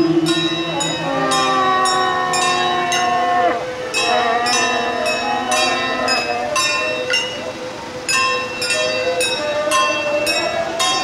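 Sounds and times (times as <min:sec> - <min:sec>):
metal percussion struck steadily: 0:00.0 - 0:11.0
wavering held melody: 0:00.0 - 0:11.0.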